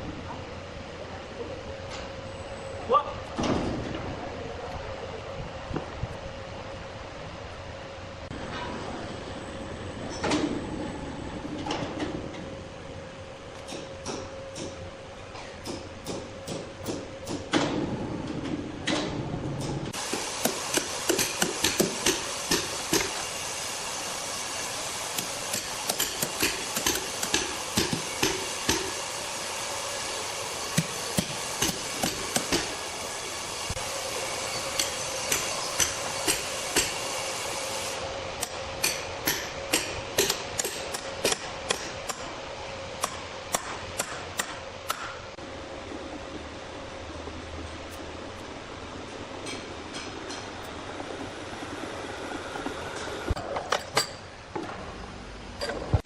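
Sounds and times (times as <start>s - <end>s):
steady machine noise: 4.9s - 53.4s.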